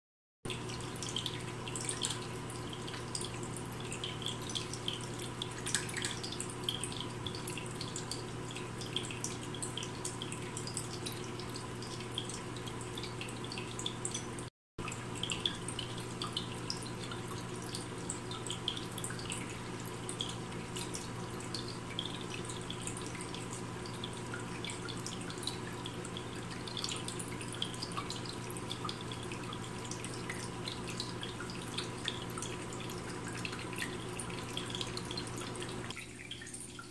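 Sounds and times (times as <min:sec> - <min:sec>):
water trickling from fountain: 0:00.5 - 0:36.9.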